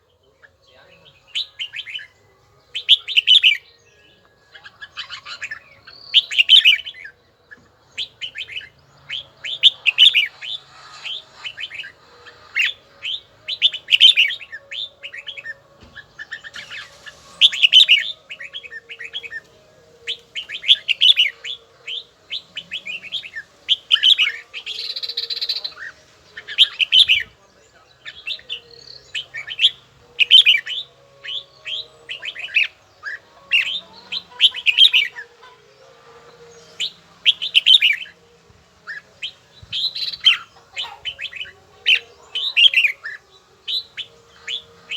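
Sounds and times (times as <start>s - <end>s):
bird singing chirpy phrases: 0.0s - 44.9s.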